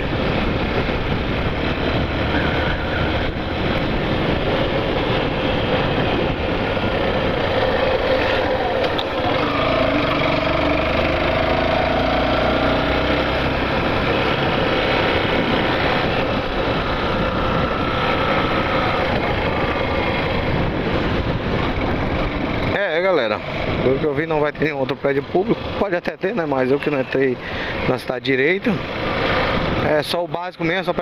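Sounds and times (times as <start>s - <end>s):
motorcycle engine running: 0.0s - 26.0s
road noise: 0.0s - 31.0s
wind noise: 0.0s - 31.0s.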